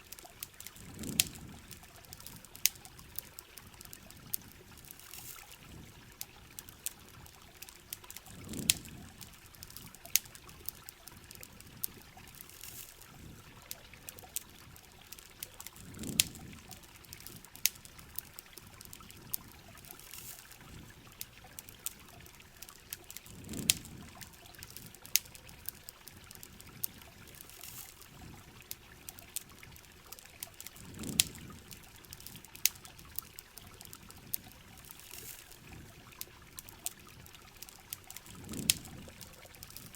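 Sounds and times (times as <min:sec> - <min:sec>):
campfire crackling: 0:00.0 - 0:39.9
steady rain: 0:00.0 - 0:39.9.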